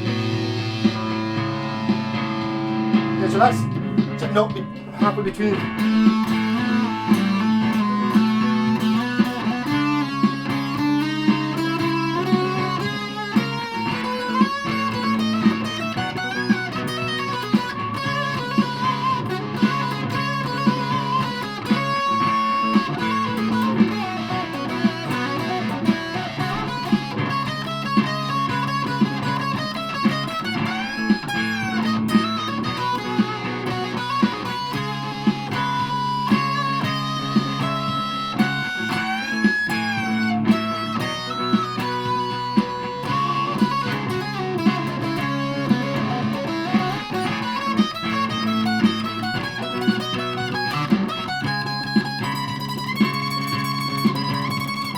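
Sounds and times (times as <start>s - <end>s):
fuzzed electric guitar: 0.0s - 54.9s.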